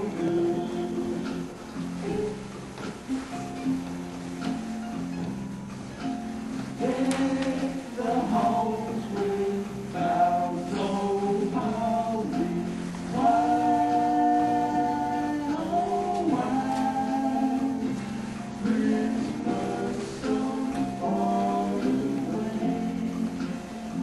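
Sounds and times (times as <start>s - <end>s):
several voices singing: 0.0s - 2.2s, 6.8s - 24.0s.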